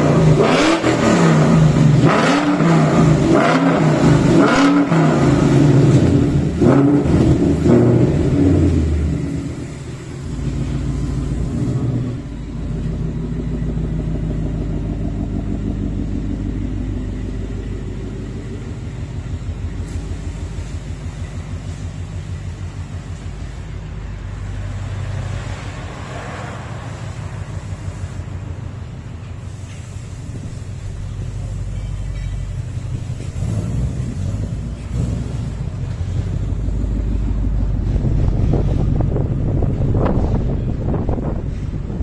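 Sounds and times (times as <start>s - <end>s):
car engine revving and burbling: 0.0s - 42.0s.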